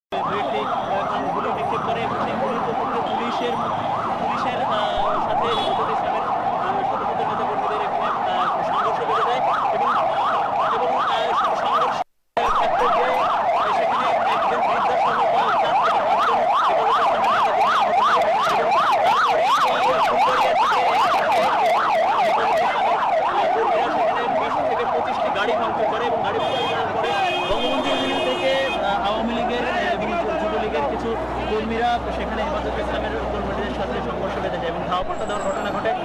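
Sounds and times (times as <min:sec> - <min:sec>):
siren yelping: 0:00.1 - 0:36.0.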